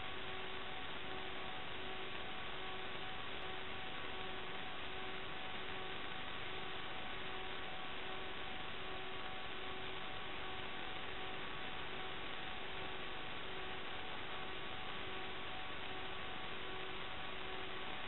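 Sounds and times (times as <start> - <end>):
faint multi-tone hum: 0.0 - 18.0
static hiss: 0.0 - 18.0.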